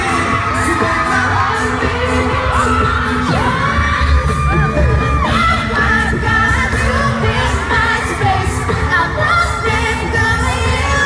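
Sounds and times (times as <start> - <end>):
a cappella group singing: 0.0 - 11.0.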